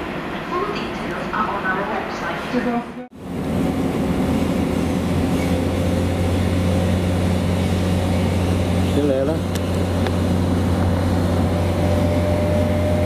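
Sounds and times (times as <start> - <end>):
low train drone: 0.0 - 13.0
train running rumble: 0.0 - 13.0.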